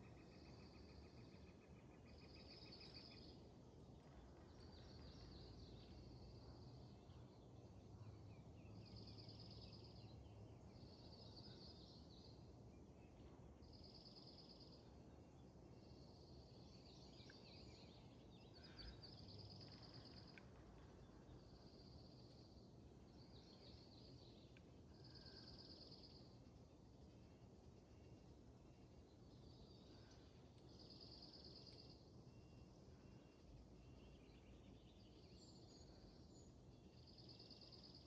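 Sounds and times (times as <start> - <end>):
low outdoor background hum: 0.0 - 38.0.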